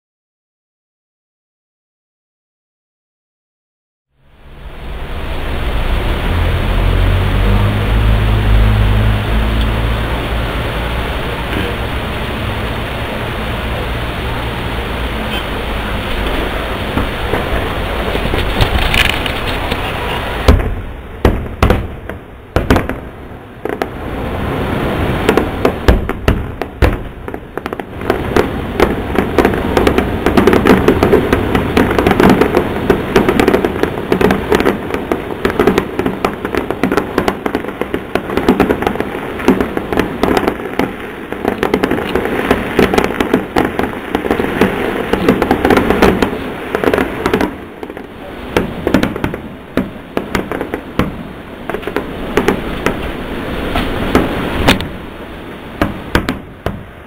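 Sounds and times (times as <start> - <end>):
fireworks bangs and crackling: 4.4 - 57.0.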